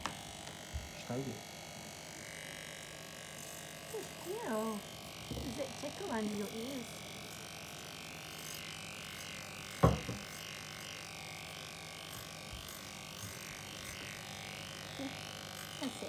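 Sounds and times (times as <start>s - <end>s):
electric clippers running: 0.0s - 16.0s.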